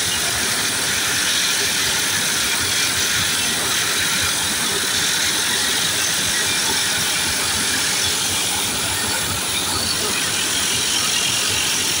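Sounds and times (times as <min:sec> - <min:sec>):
high-pressure water jet hissing: 0:00.0 - 0:12.0.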